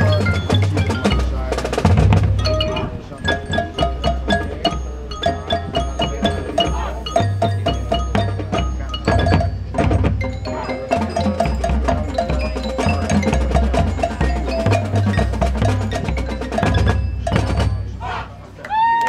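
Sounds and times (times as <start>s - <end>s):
marimbas striking ringing notes: 0.0s - 18.0s
marching band playing: 0.0s - 18.5s.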